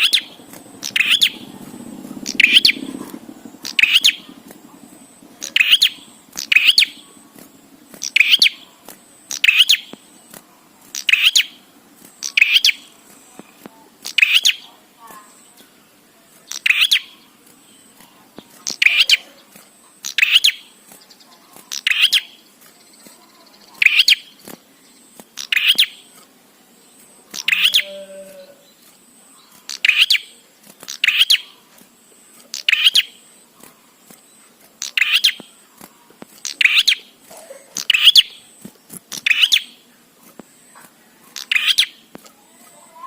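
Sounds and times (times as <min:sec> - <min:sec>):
bird chirping calls: 0:00.0 - 0:43.0.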